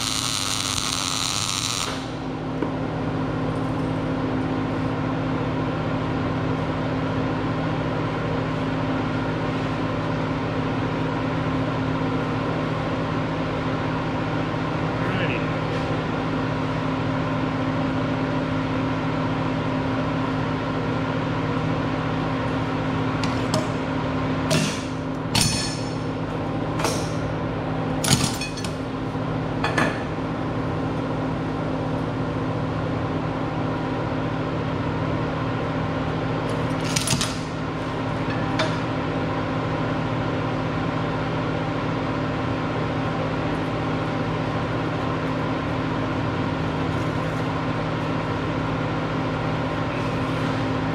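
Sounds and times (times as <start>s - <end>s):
steady machine hum: 0.0s - 50.9s.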